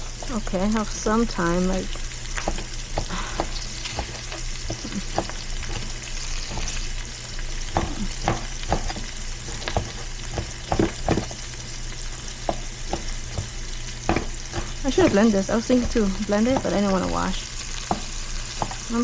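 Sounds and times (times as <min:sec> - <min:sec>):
food sizzling in a pan: 0:00.0 - 0:19.0
utensil scraping a pan: 0:02.2 - 0:19.0.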